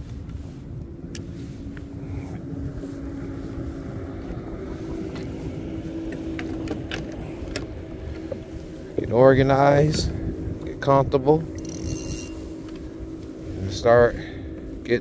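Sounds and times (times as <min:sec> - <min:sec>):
motorboat engine humming: 0:00.0 - 0:15.0
wind rumble on microphone: 0:00.0 - 0:15.0.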